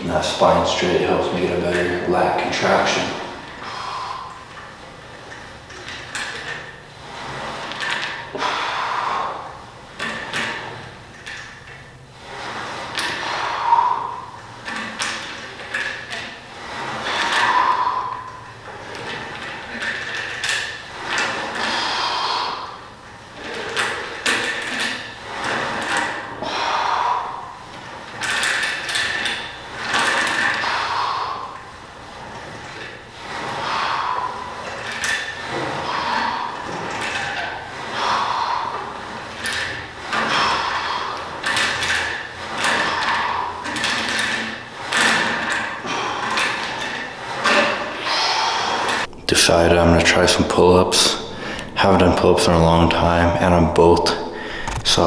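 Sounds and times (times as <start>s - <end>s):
cable sliding over pulleys: 0.0s - 55.0s
gym weight stack moving: 0.0s - 55.0s.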